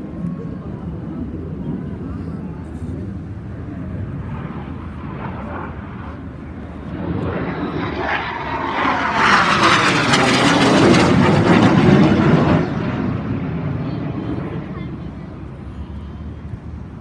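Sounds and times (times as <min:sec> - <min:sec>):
aircraft flying past low: 0:00.0 - 0:15.7.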